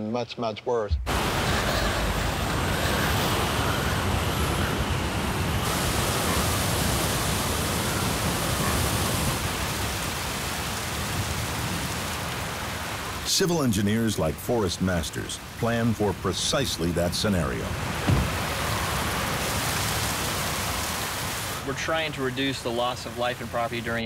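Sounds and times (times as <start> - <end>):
driving rain: 0.9 - 24.0
hurricane wind: 0.9 - 24.0.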